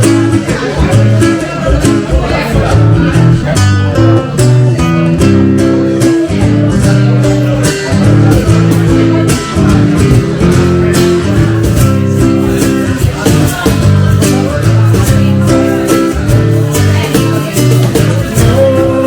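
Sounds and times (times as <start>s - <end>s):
guitar-led instrumental music: 0.0s - 19.0s.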